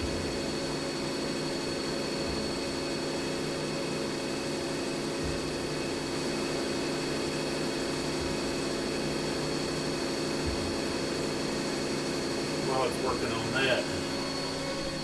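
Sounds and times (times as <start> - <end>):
high spindle whine: 0.0 - 15.0
milling machine hum: 0.0 - 15.0.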